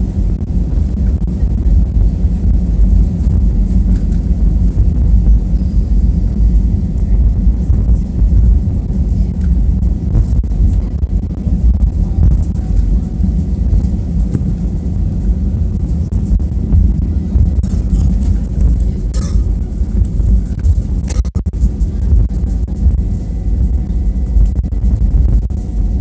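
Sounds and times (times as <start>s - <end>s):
jet engine rumble in cabin: 0.0s - 26.0s.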